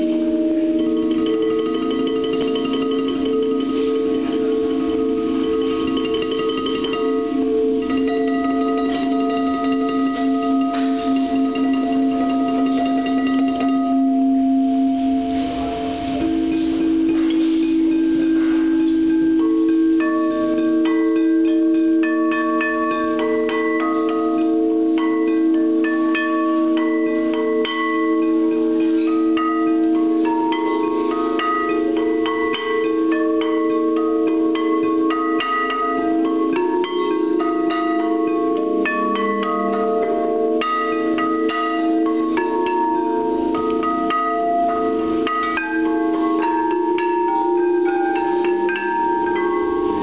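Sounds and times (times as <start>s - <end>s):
high tapped chimes: 0.0s - 50.0s
singing bowls droning: 0.0s - 50.0s.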